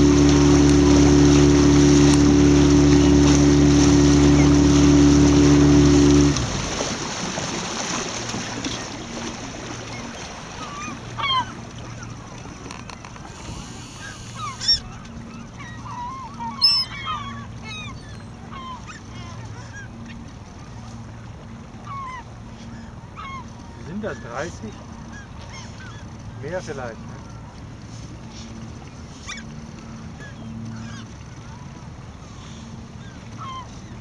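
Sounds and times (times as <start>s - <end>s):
gulls calling: 0.0s - 34.0s.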